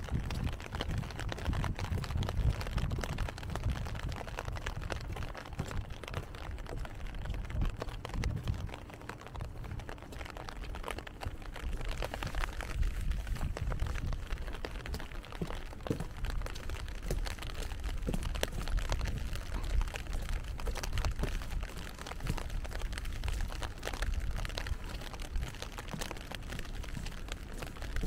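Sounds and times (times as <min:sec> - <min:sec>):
low rumble: 0:00.0 - 0:28.0
rain patter: 0:00.0 - 0:28.0.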